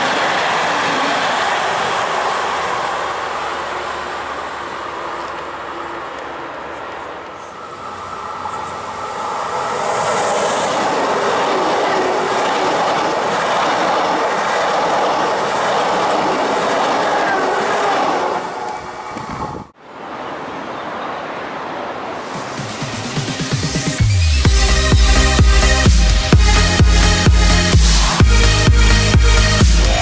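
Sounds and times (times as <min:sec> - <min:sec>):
steady rail noise: 0:00.0 - 0:30.0
train passing at speed: 0:00.0 - 0:30.0.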